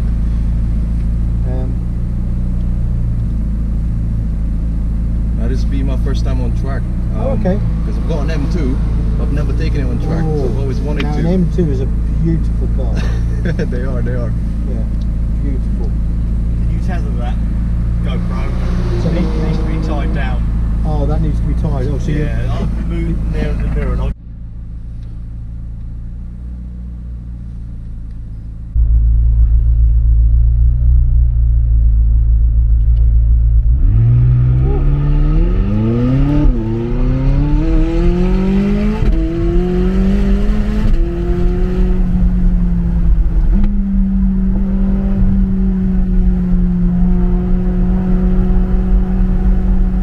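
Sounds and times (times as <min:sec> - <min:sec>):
car engine accelerating and upshifting: 0:00.0 - 0:24.2, 0:32.8 - 0:50.0.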